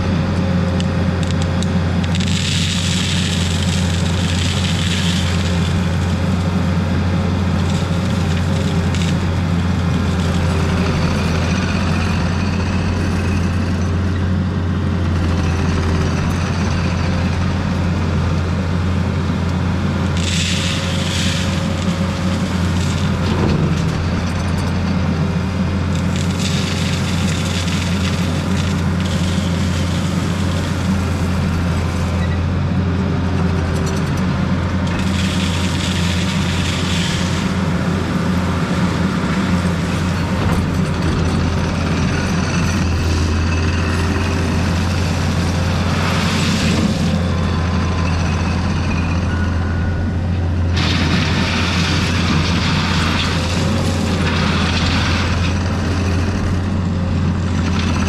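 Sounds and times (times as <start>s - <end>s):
diesel engine running under work: 0.0s - 58.0s.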